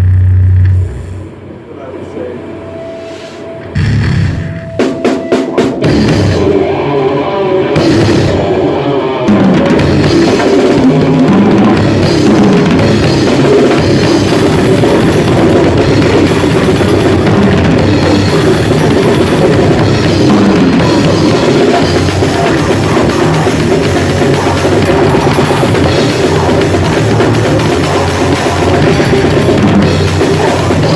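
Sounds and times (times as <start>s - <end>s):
loud heavy band music: 3.6s - 30.9s
driving drum kit: 3.7s - 30.9s.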